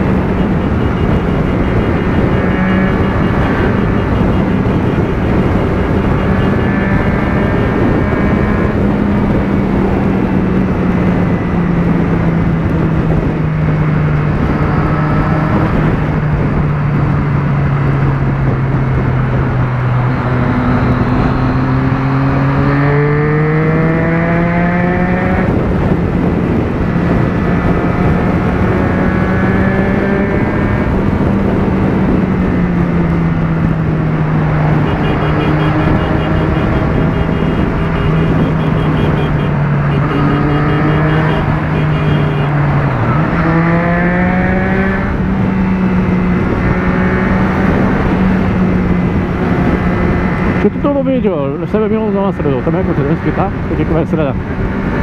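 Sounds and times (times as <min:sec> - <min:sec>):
wind rushing: 0:00.0 - 0:51.6
motorcycle engine at speed: 0:00.0 - 0:55.0.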